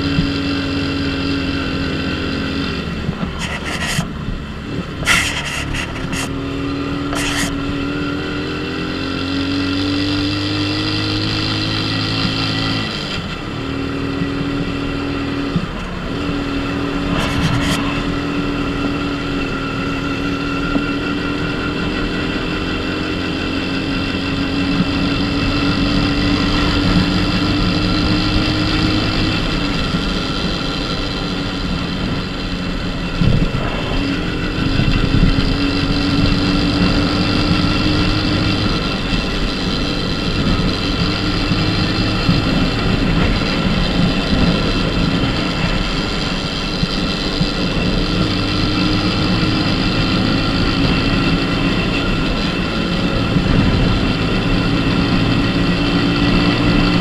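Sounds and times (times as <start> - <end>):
small motorcycle engine cruising: 0.0 - 57.0.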